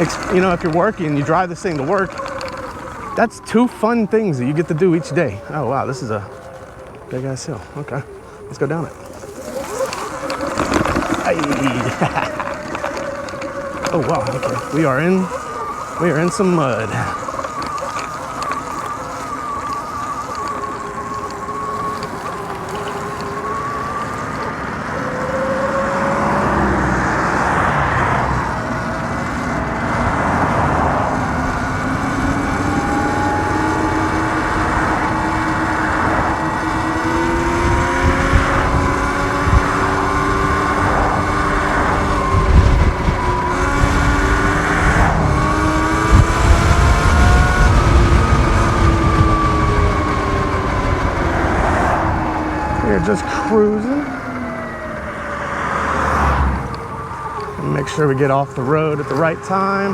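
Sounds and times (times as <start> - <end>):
electric dirt bike motor whine: 0.0 - 59.9
wind buffeting on microphone: 0.0 - 59.9.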